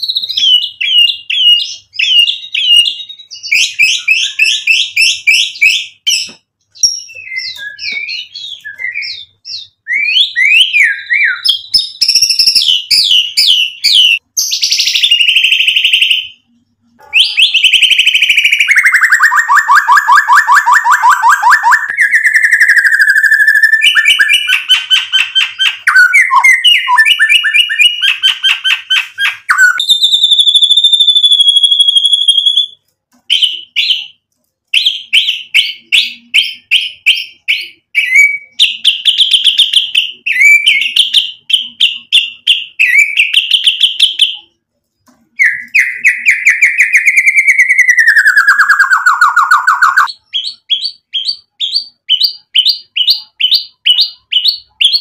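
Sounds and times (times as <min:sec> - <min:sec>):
songbird singing trills and whistles: 0:00.0 - 0:34.2, 0:34.8 - 0:44.5, 0:45.3 - 0:55.0.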